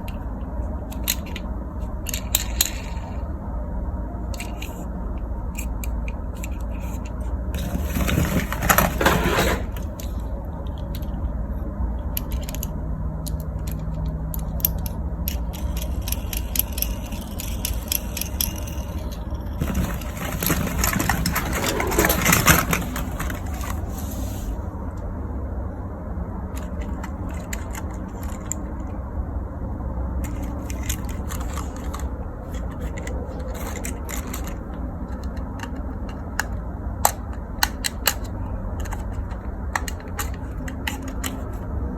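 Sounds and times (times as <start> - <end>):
plastic toy cars clattering: 0.0 - 3.3, 4.2 - 24.4, 26.5 - 29.0, 30.2 - 41.9.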